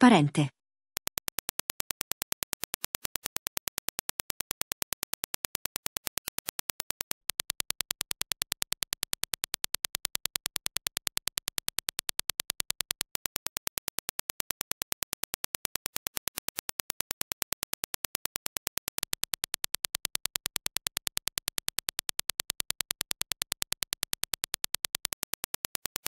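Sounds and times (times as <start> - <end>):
impulse clicks: 1.0 - 26.0.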